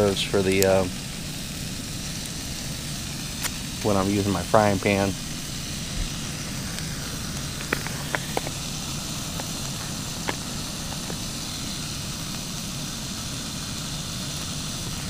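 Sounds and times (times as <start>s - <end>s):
camp stove burner: 0.0s - 15.0s
sausages sizzling in pan: 0.0s - 15.0s.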